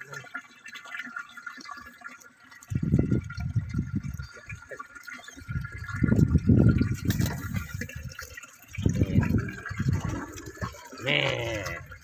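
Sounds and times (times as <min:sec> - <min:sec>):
water splashing and gurgling: 0:00.0 - 0:12.0.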